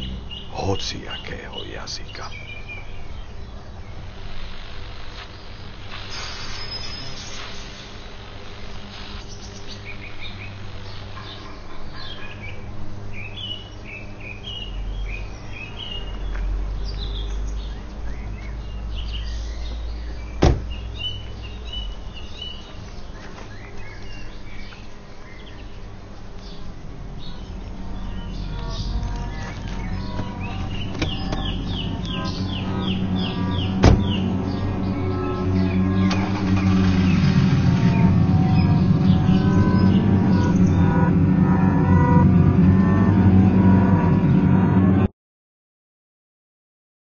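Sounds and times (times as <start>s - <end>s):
small birds chirping: 0.0s - 41.1s
steady low hum: 0.0s - 45.1s.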